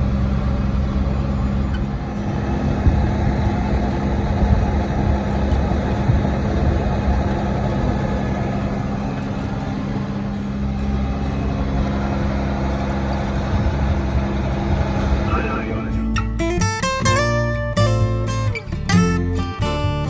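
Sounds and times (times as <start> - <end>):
road rumble: 0.0 - 20.0
truck engine drone: 0.0 - 20.0.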